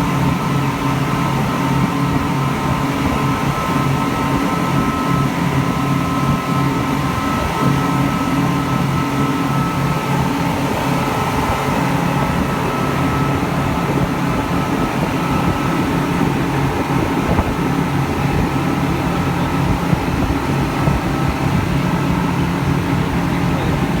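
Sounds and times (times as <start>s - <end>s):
speedboat engines droning: 0.0s - 24.0s.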